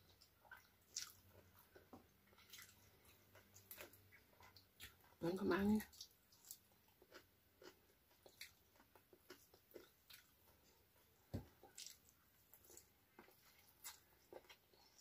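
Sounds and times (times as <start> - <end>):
person chewing food: 0.0 - 5.2, 5.8 - 15.0.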